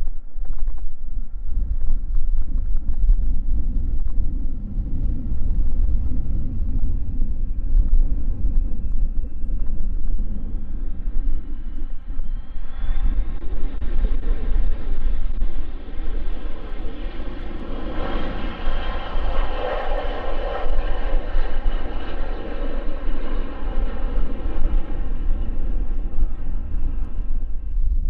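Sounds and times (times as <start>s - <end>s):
aircraft engines passing: 0.0s - 28.0s
wind buffeting microphone: 0.0s - 28.0s.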